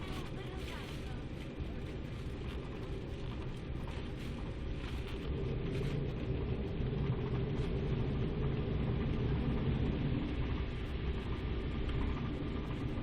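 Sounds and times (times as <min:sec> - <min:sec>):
jet engine cabin drone: 0:00.0 - 0:13.0.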